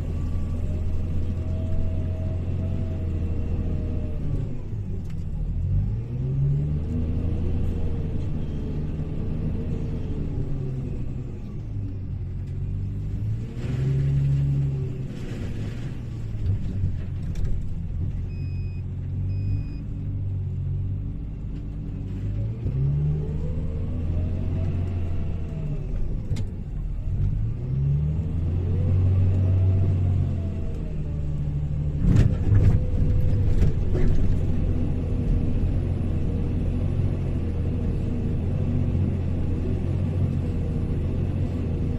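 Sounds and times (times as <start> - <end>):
wheel loader diesel engine: 0.0 - 41.9.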